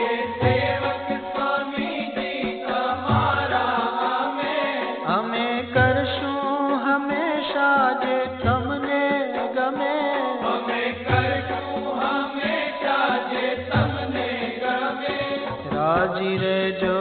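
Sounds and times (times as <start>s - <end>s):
devotional song: 0.0s - 17.0s.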